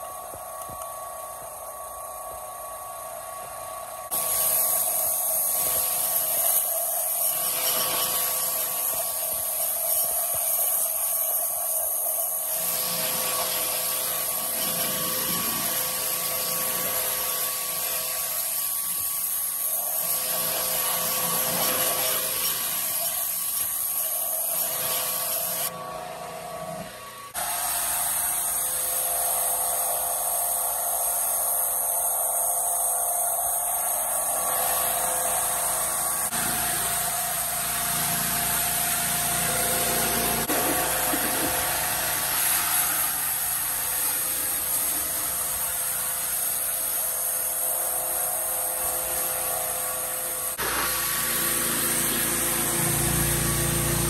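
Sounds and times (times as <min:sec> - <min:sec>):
pressure washer motor humming: 0:00.0 - 0:54.0
water jet hissing: 0:04.1 - 0:25.7, 0:27.3 - 0:54.0.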